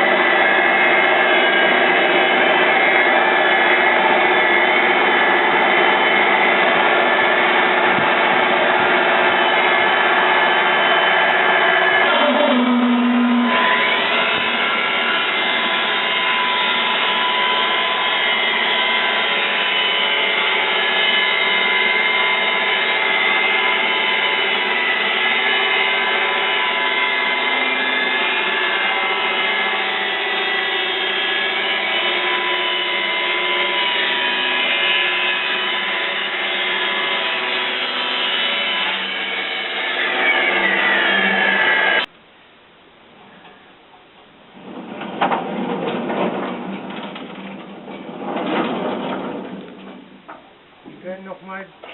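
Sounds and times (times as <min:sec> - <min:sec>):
band saw blade sawing log: 0:00.0 - 0:42.1.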